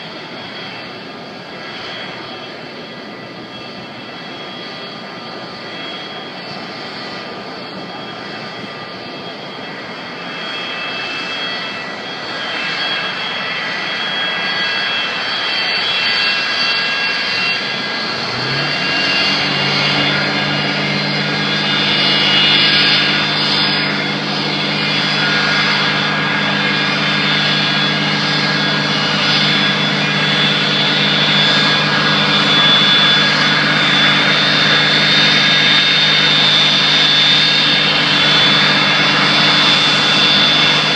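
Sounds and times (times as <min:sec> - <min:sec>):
fire truck engines droning: 0:00.0 - 0:40.9
jet engines whining and roaring: 0:00.0 - 0:40.9.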